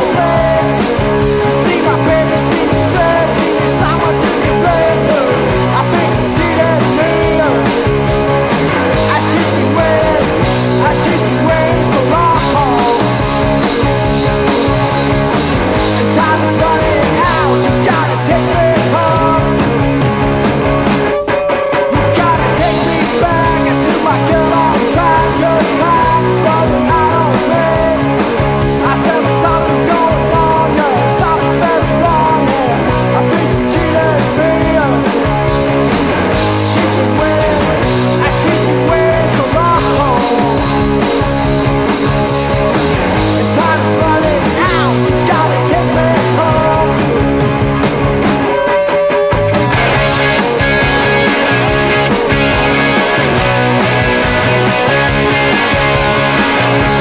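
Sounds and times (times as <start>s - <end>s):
electric guitar: 0.0s - 57.0s
garage rock band: 0.0s - 57.0s.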